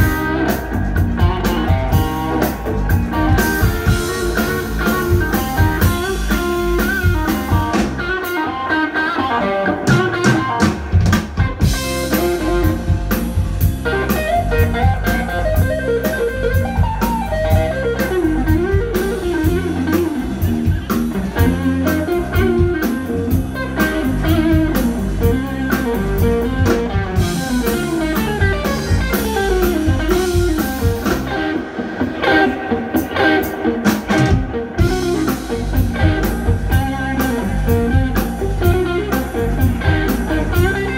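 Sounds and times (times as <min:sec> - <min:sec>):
electric bass: 0:00.0 - 0:08.8, 0:09.7 - 0:40.9
drum kit: 0:00.0 - 0:40.9
electric guitar melodic lines: 0:00.0 - 0:40.9.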